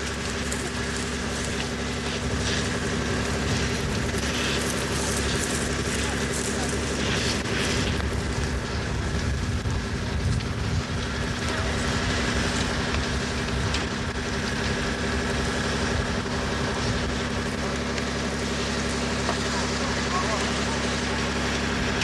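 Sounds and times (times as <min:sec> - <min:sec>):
fire engine engine rumbling: 0:00.0 - 0:22.0.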